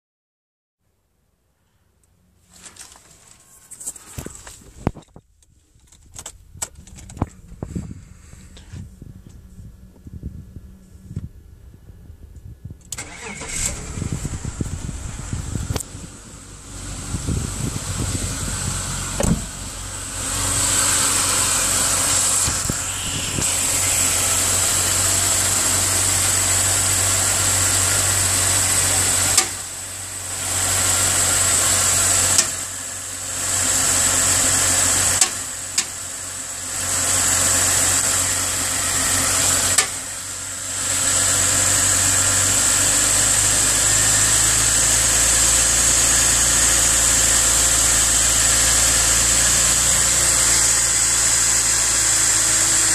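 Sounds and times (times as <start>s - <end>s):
high engine whine: 2.5s - 52.9s
engine knocking and rumbling: 4.2s - 52.9s.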